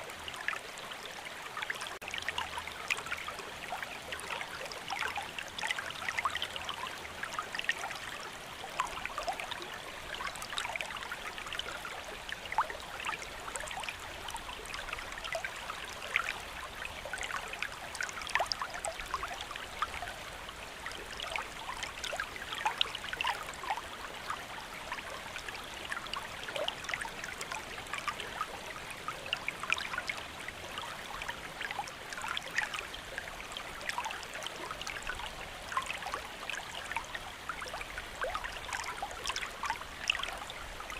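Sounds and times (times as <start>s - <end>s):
water drips and splashes: 0.0s - 40.9s.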